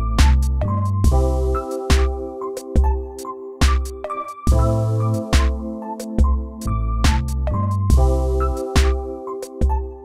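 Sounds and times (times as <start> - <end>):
electronic background music: 0.0 - 10.0.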